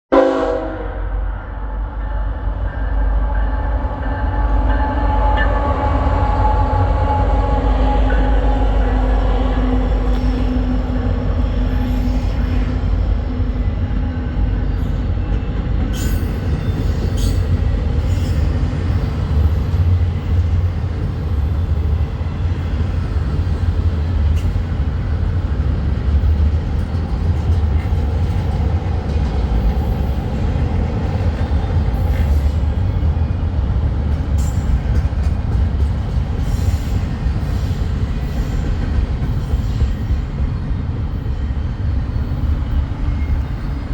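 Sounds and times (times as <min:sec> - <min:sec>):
diesel locomotive engine hum: 0:00.1 - 0:43.9
freight train rumbling past: 0:00.1 - 0:43.9.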